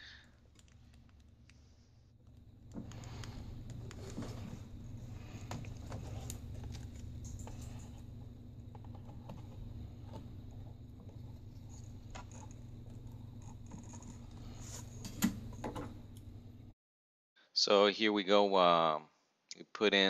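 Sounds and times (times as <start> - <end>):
low electrical hum: 0.0 - 16.8.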